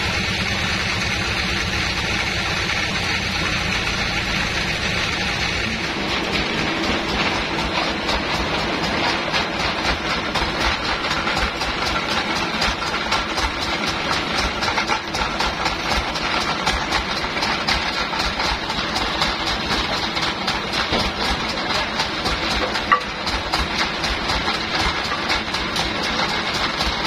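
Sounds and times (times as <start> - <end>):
bandsaw machinery running: 0.0 - 27.0
fast fine rattle: 0.0 - 27.0.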